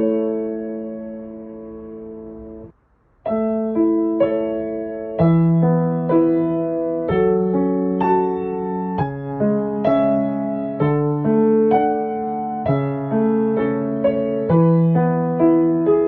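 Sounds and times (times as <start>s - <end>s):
solo piano chords: 0.0s - 16.0s.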